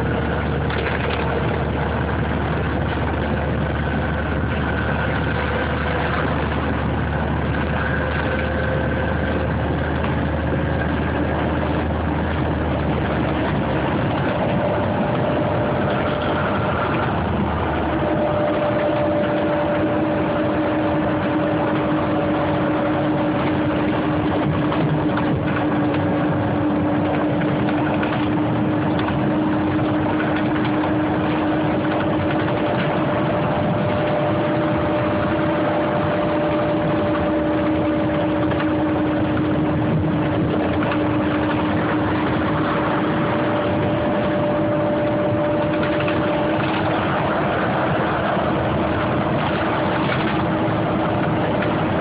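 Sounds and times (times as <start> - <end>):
bus engine and road noise: 0.0 - 52.0.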